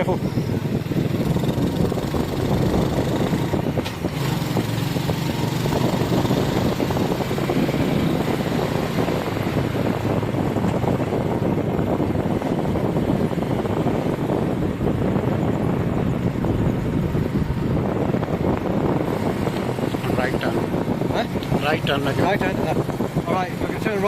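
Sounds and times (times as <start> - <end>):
motorbike engine running: 0.0 - 24.0
wind and road noise: 0.0 - 24.0.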